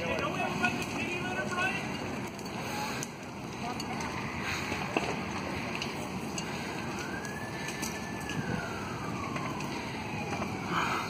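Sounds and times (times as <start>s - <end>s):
distant siren wailing: 0.0s - 11.0s
fire cracks: 0.0s - 11.0s
fire rushing noise: 0.0s - 11.0s.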